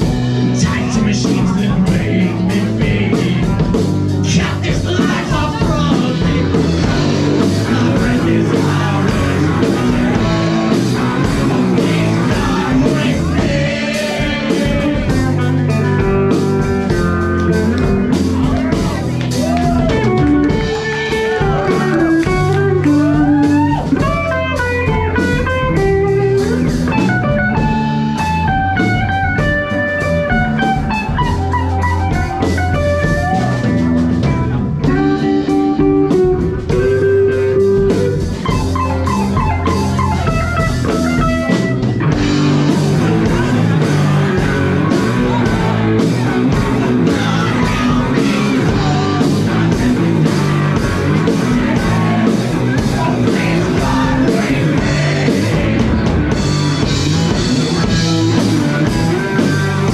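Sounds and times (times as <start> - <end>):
bending lead guitar melody: 0.0 - 59.9
live rock band playing: 0.0 - 59.9.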